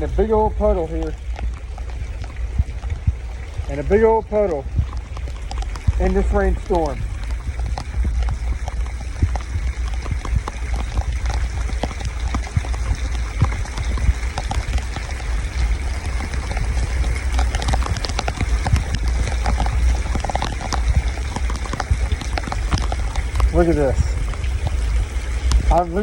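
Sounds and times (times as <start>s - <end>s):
heavy rain splashing into water: 0.0s - 26.0s.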